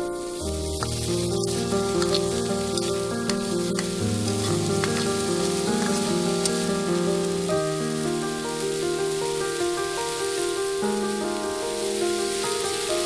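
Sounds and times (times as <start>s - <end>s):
background music with sustained notes: 0.0s - 13.0s
vegetables sizzling in a wok: 0.0s - 13.0s.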